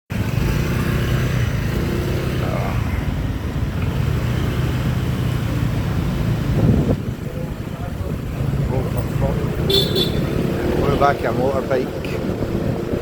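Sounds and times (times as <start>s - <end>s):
motorbike engine humming: 0.1s - 13.0s
road noise rushing: 0.1s - 13.0s.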